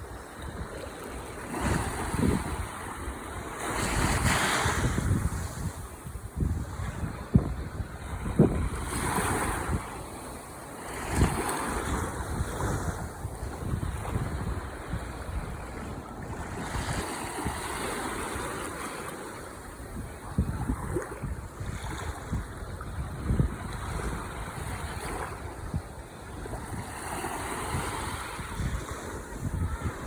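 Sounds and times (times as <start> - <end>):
wind buffeting microphone: 0.0 - 18.7, 19.6 - 30.0
ocean waves breaking on shore: 0.0 - 30.0.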